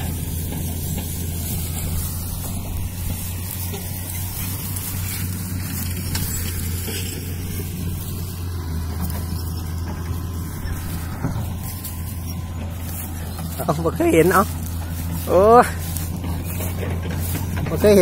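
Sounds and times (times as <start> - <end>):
engine droning steadily: 0.0 - 18.0.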